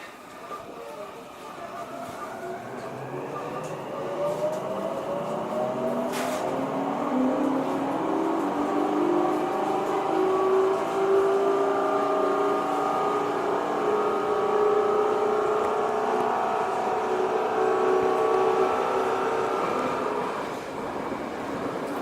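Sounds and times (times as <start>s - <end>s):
train running gear rumble: 0.0s - 22.0s
electric train motor whine: 0.6s - 22.0s.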